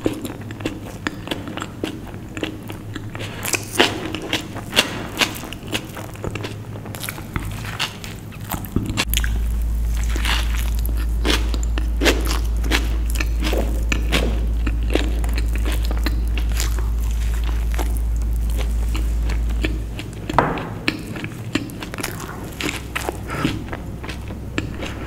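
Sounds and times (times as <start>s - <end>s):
close chewing: 0.0s - 25.0s
steady low hum: 0.0s - 25.0s.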